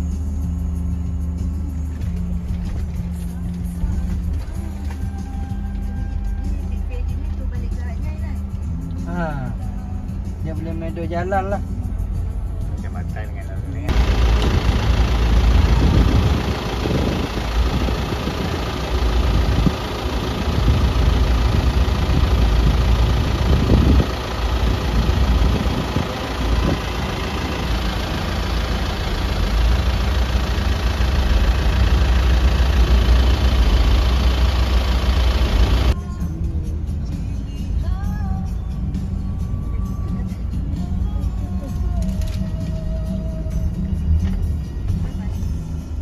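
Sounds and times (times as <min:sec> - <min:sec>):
ferry engine rumble: 0:00.0 - 0:46.0.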